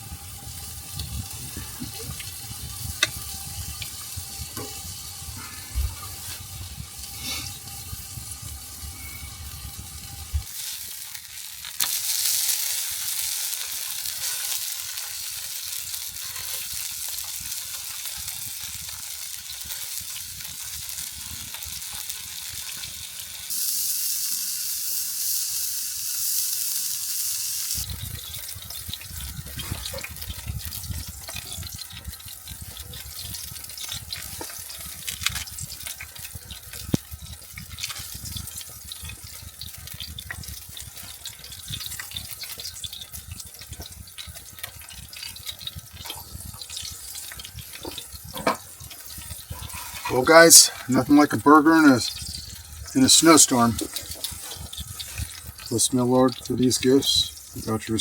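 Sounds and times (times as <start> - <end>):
burgers sizzling on a griddle: 0.0 - 58.0.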